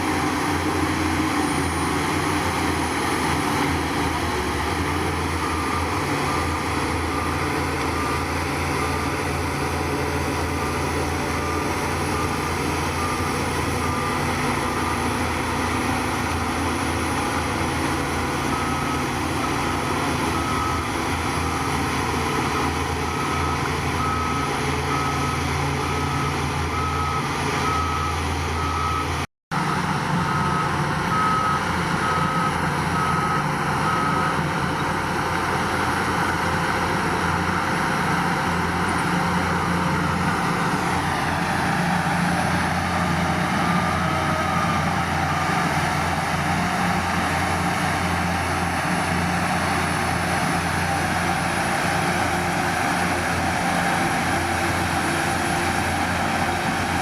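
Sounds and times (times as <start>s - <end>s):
reversing alarm beeping: 0.0s - 47.4s
diesel engine running: 0.0s - 57.0s.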